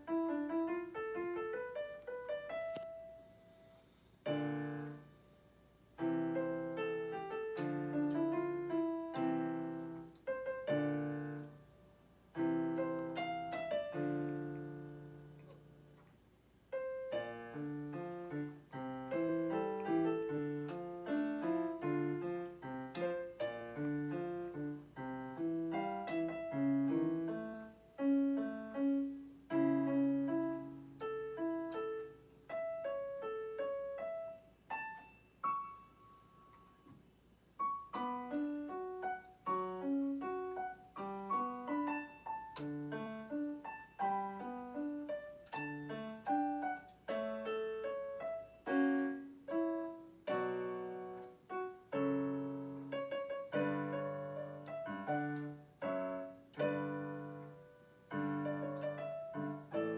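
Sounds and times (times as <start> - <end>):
solo piano melody: 0.0 - 59.9.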